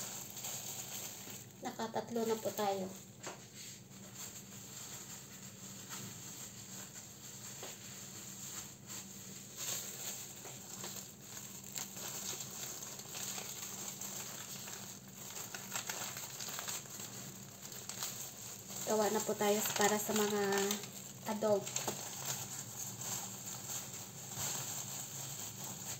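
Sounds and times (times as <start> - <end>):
plastic rustling and crinkling: 0.0 - 25.9.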